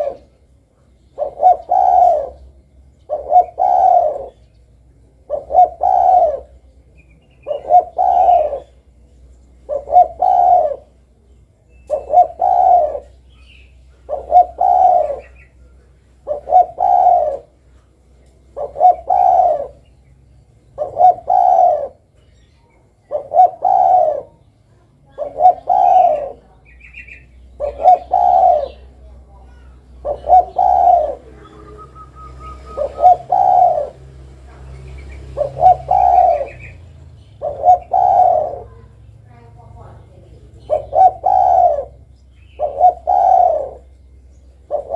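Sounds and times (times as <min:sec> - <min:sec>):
dove cooing: 0:00.0 - 0:00.4, 0:01.0 - 0:09.0, 0:09.6 - 0:11.2, 0:11.8 - 0:44.9
small birds chirping: 0:00.0 - 0:44.9.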